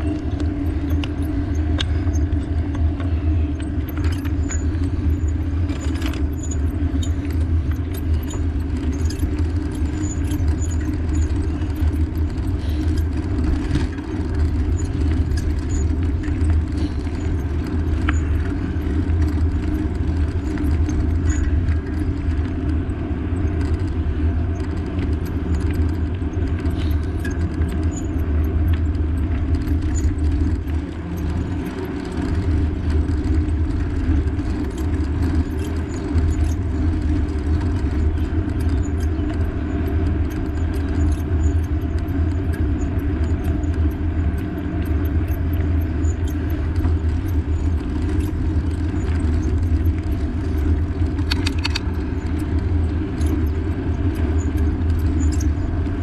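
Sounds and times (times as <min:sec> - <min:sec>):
light rattling clicks: 0:00.0 - 0:56.0
low rumble of riding: 0:00.0 - 0:56.0.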